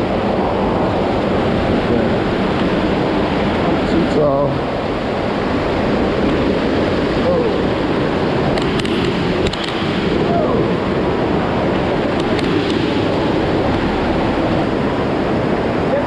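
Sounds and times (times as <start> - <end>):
water pouring down waterfall: 0.0 - 16.0.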